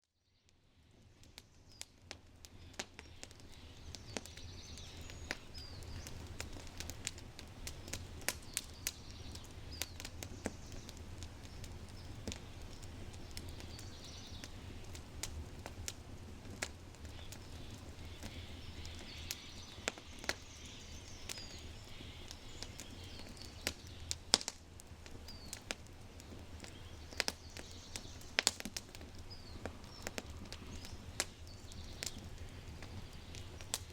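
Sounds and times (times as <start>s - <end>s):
fire crackling and popping: 0.4s - 33.9s
fire rumbling: 0.6s - 33.9s
birds singing: 1.5s - 7.0s, 7.6s - 15.0s, 17.0s - 24.4s, 25.1s - 33.9s.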